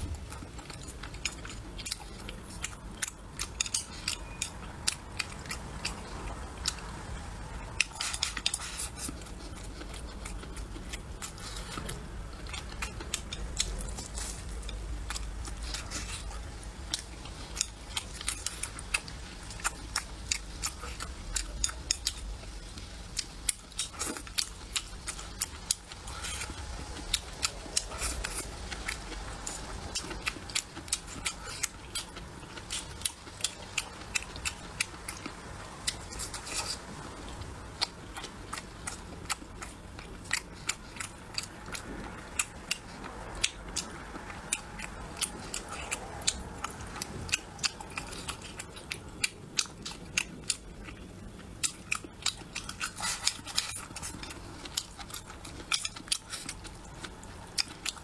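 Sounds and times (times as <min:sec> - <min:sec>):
chewing with mouth clicks: 0:00.0 - 0:58.0.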